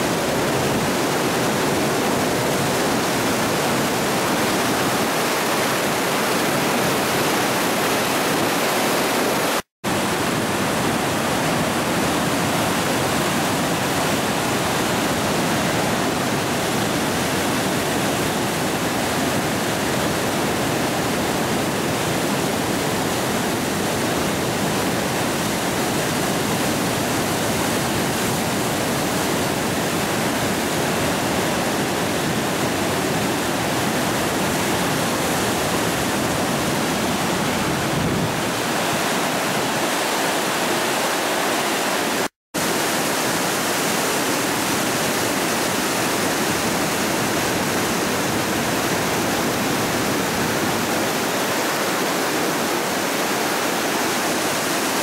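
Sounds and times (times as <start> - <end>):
floodwater roaring through rapids: 0.0 - 55.0.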